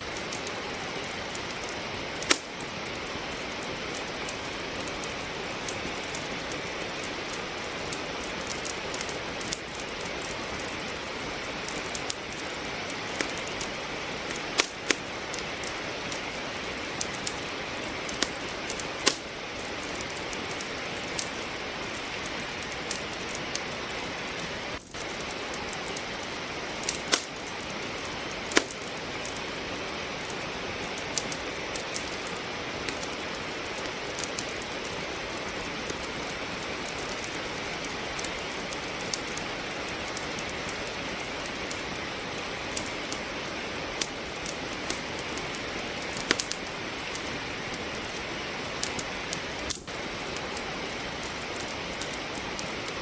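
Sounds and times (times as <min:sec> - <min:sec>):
steady rain: 0:00.0 - 0:53.0
wood fire crackling: 0:00.0 - 0:53.0.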